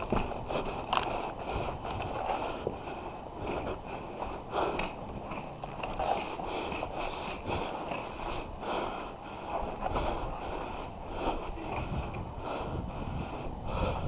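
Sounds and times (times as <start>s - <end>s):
footsteps: 0.0s - 12.6s
person breathing hard: 0.0s - 14.0s.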